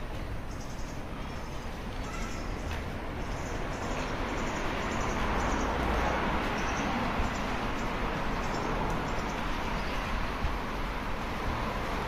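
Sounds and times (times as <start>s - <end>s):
distant city hiss: 0.0s - 12.0s.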